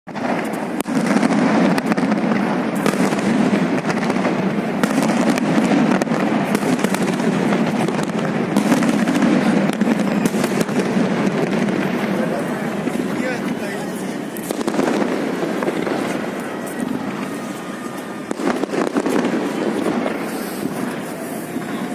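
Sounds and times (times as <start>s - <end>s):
fireworks bangs and cracks: 0.1s - 21.9s.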